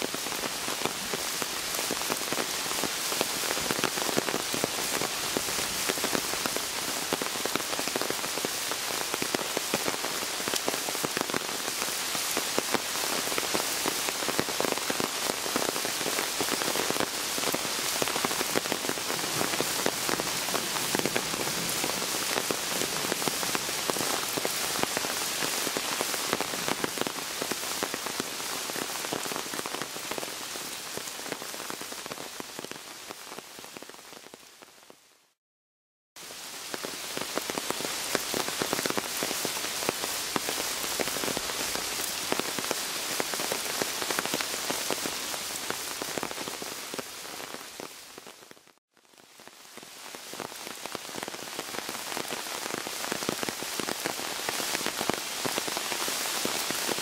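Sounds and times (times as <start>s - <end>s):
rain pattering on wet ground: 0.0s - 35.0s, 36.2s - 57.0s.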